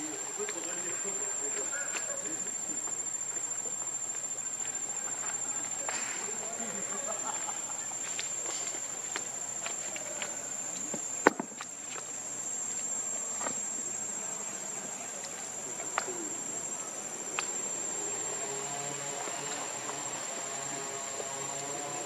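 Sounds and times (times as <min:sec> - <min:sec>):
insects calling: 0:00.0 - 0:22.0.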